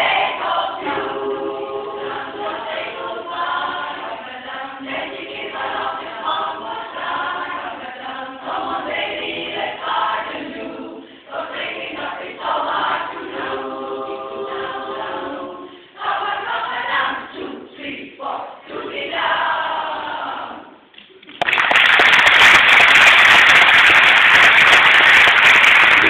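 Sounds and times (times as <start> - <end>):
women's chorus singing a cappella: 0.0 - 20.9.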